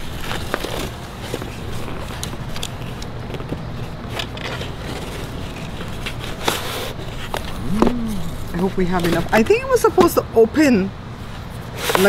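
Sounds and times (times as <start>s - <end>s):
cardboard scraping and crinkling: 0.0s - 9.4s, 11.6s - 12.0s.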